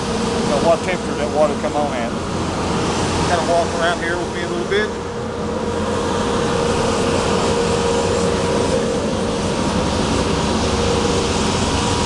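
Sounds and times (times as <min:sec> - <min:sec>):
drum coffee roaster humming: 0:00.0 - 0:12.0.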